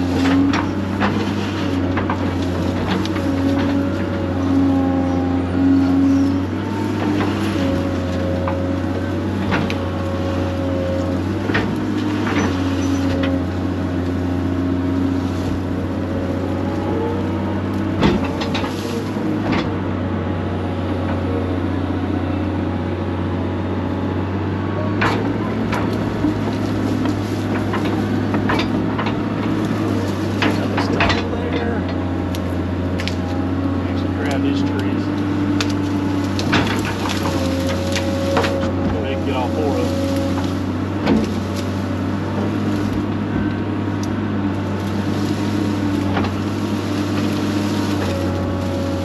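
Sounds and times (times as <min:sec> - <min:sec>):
digging knocks and clanks: 0:00.0 - 0:19.9, 0:24.9 - 0:49.0
excavator diesel engine running: 0:00.0 - 0:49.0.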